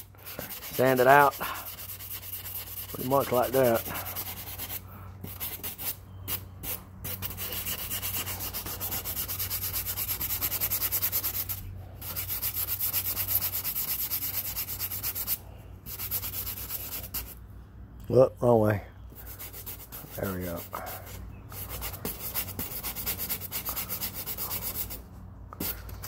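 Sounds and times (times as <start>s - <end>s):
sanding block rubbing back and forth: 0.0s - 17.4s, 19.2s - 25.0s.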